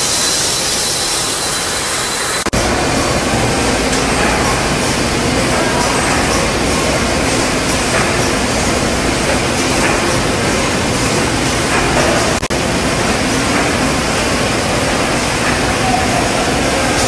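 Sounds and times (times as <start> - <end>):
packing machines running: 0.0 - 17.0.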